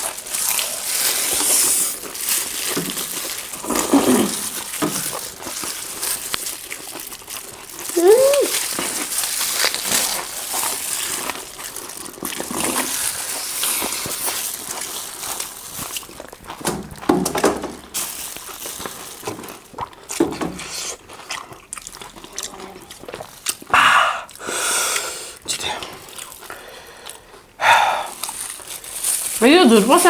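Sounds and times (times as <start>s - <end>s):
wet chewing and slurping: 0.0s - 30.0s.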